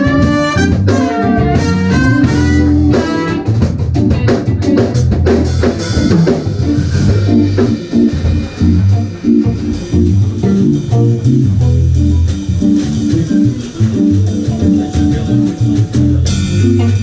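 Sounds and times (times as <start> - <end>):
drum kit: 0.0 - 17.0
electric bass line: 0.0 - 17.0
guitar chords: 0.0 - 17.0.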